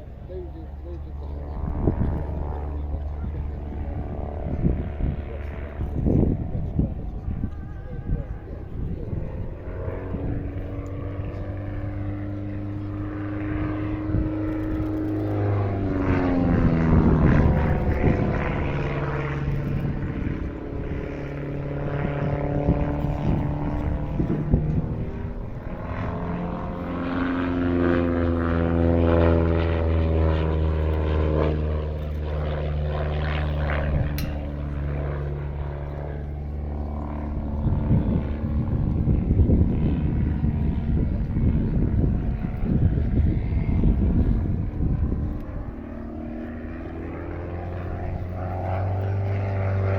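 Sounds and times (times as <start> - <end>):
biplane engine and propeller: 0.0 - 49.9.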